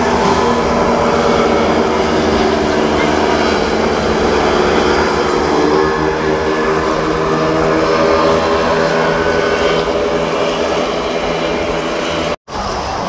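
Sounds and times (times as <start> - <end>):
engine droning: 0.0 - 13.0
noisy background: 0.0 - 13.0.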